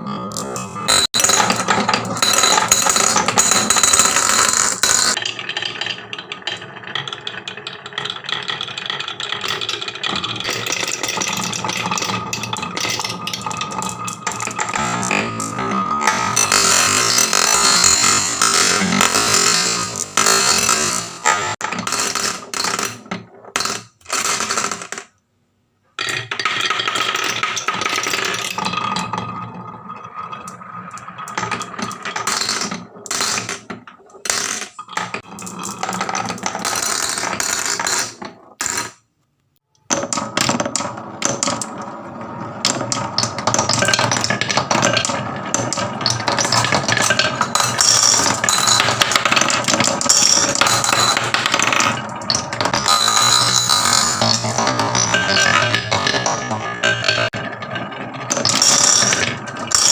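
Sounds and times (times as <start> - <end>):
marbles rattling down wooden run: 0.4 - 25.2, 26.0 - 39.0, 39.9 - 59.9.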